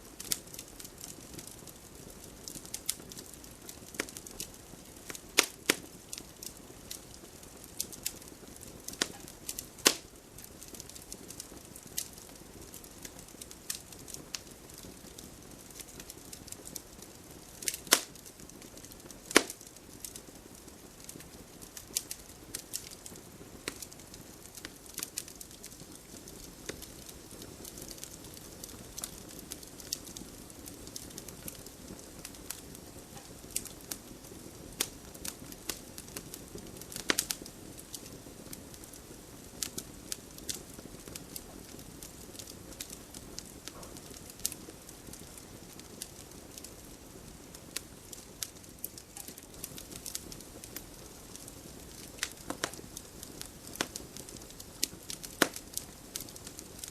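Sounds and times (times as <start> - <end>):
campfire crackling and popping: 0.0 - 56.9
flames rushing: 0.2 - 56.9.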